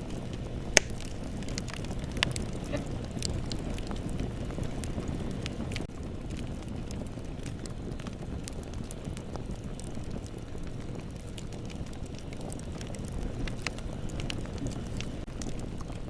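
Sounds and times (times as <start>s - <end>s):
fire crackles and pops: 0.0s - 16.0s
low rush of flames: 0.0s - 16.0s.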